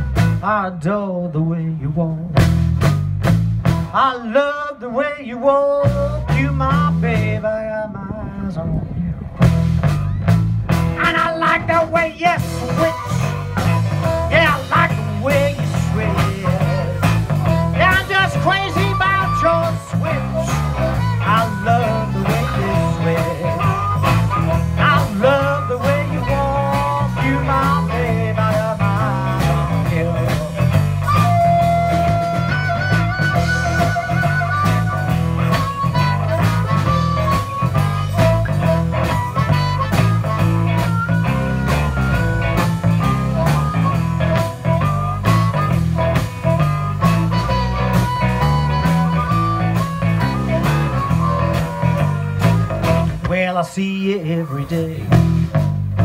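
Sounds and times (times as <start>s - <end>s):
drum kit steady beat: 0.0s - 0.6s, 2.3s - 4.0s, 9.4s - 56.0s
electric guitars: 0.0s - 4.7s, 5.6s - 56.0s
harmonica bending notes: 9.8s - 56.0s.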